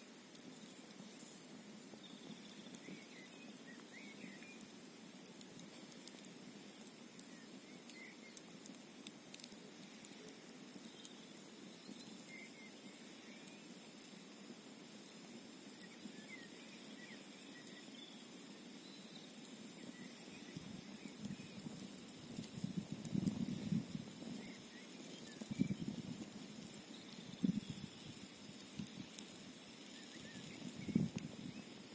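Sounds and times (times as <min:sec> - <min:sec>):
campfire crackling and popping: 0:00.0 - 0:31.9
wind: 0:00.0 - 0:31.9.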